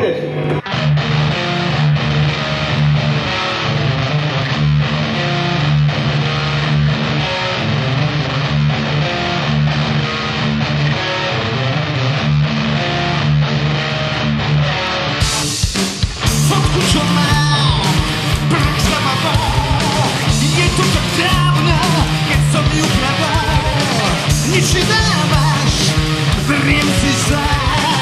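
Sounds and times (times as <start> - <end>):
bass guitar: 0.0 - 28.0
strummed electric guitar: 0.0 - 28.0
drums: 0.5 - 28.0.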